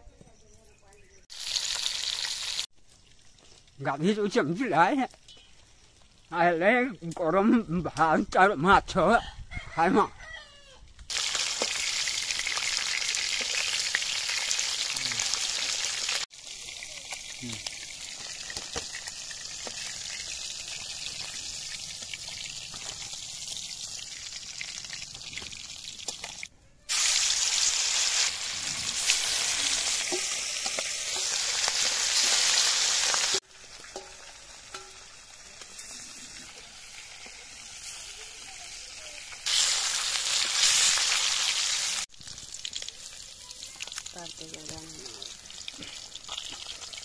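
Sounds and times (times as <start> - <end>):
fish sizzling in hot oil: 1.2 - 3.8, 11.1 - 47.0.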